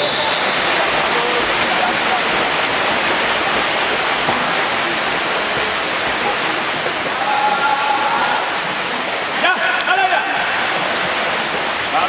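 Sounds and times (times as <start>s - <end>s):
rushing hiss of water: 0.0s - 12.0s.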